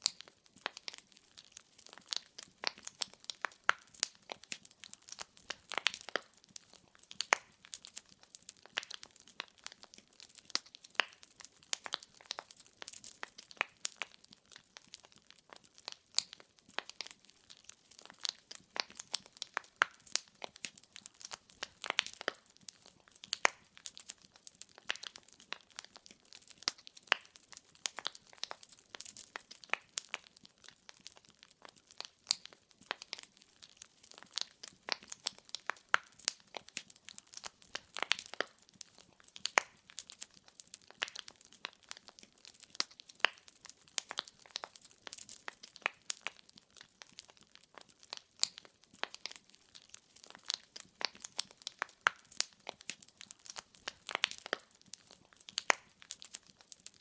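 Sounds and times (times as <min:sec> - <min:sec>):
logs crackling in a fireplace: 0:00.0 - 0:57.0.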